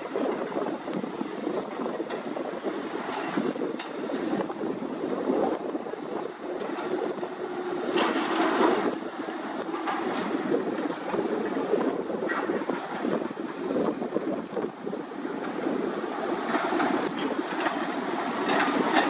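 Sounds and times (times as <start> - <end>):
excavator diesel engines running: 0.0 - 19.0.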